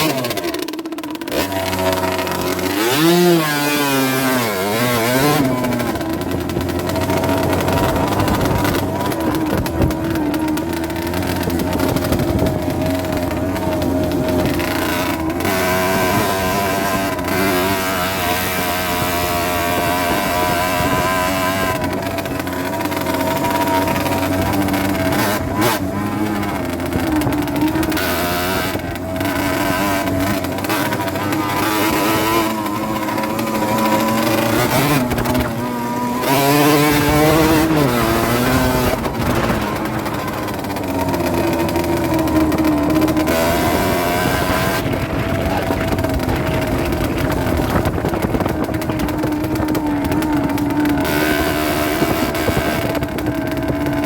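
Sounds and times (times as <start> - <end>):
moped engine revving: 0.0 - 54.0.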